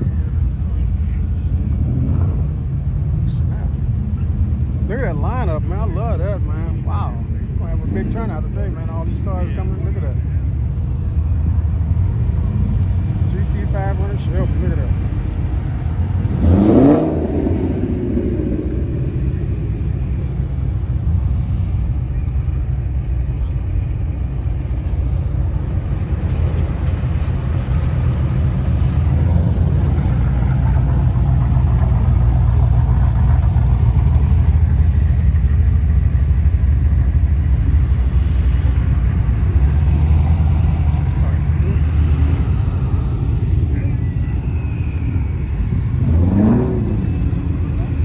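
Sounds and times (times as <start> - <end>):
car engine revving and rumbling: 0.0 - 48.0.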